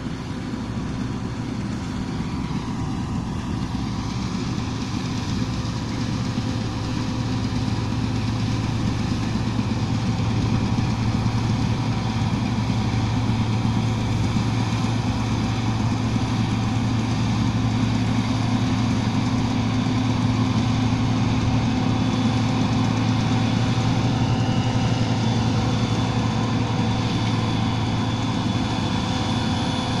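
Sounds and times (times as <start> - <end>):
combine harvester diesel drone: 0.0 - 30.0.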